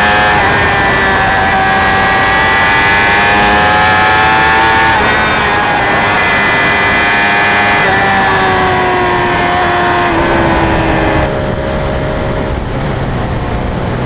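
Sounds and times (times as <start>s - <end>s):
motorcycle engine running: 0.0s - 14.0s
wind on microphone: 0.0s - 14.0s.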